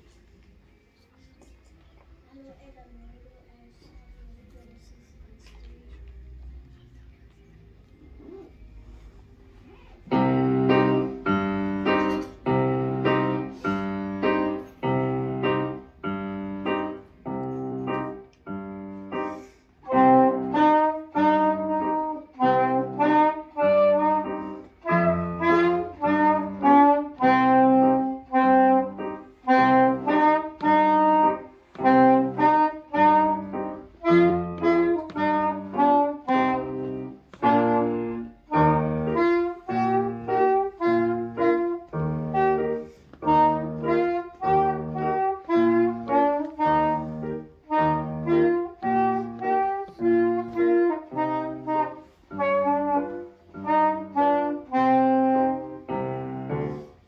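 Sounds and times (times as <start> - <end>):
piano accompaniment: 10.0 - 57.0.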